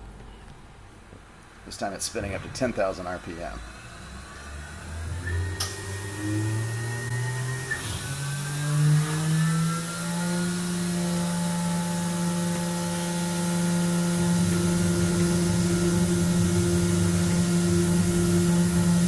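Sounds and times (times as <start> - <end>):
milling machine spindle whine: 1.7 - 19.0
rough machine noise: 1.7 - 19.0.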